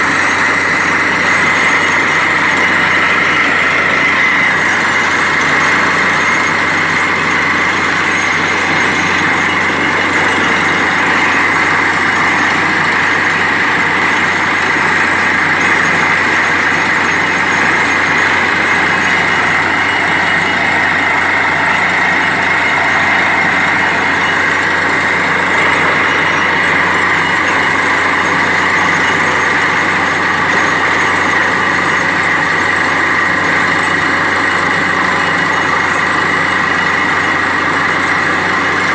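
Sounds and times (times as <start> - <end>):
constant high tone: 0.0 - 38.9
drilling rig engine running: 0.0 - 38.9.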